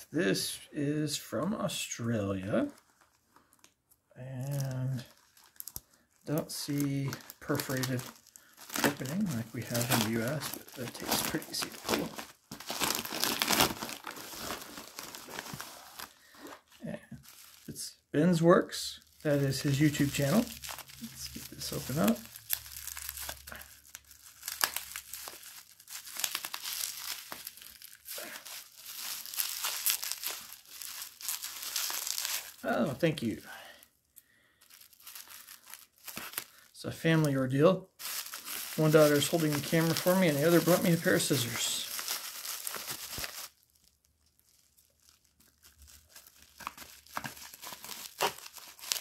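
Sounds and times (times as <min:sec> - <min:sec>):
bubble wrap crinkling: 0:01.9 - 0:49.0.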